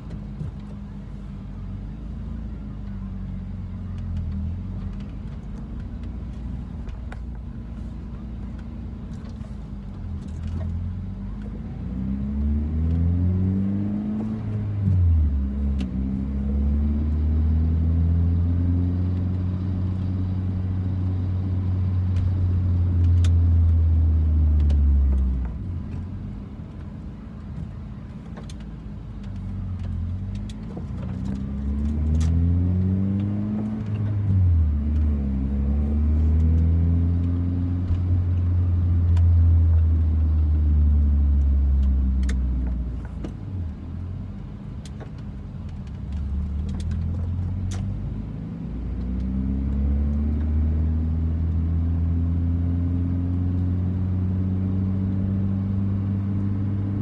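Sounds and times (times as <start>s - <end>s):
car engine shifting gears: 0.0s - 57.0s.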